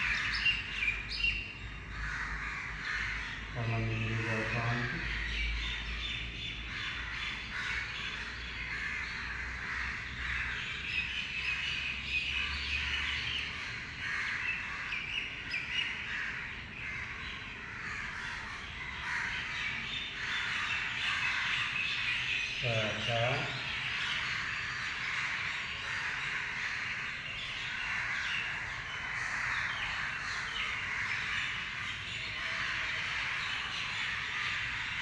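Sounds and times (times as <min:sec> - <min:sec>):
birds chirping chorus: 0:00.0 - 0:35.0.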